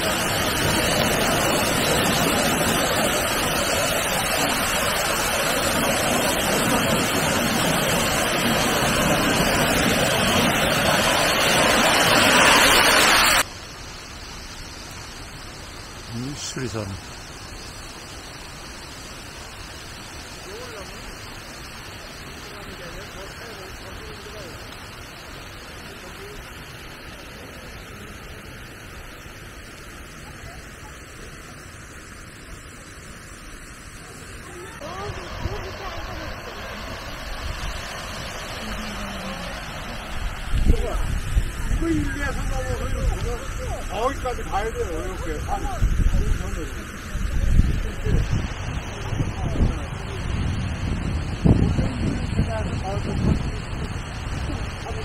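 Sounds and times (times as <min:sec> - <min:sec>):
even hiss: 0:00.0 - 0:55.0
waterfall rushing onto stones: 0:00.0 - 0:55.0.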